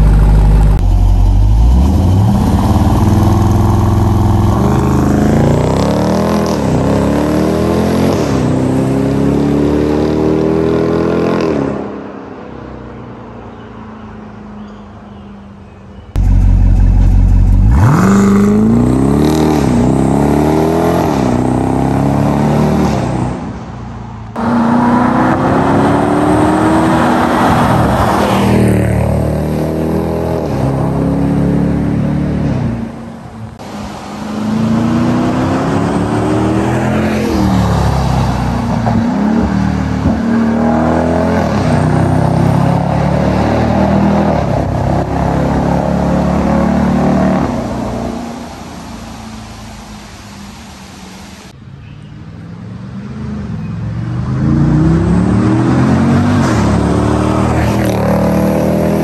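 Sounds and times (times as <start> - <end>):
car engine revving hard: 0.0 - 11.7, 16.2 - 23.3, 24.4 - 32.7, 33.6 - 50.0, 54.3 - 59.0.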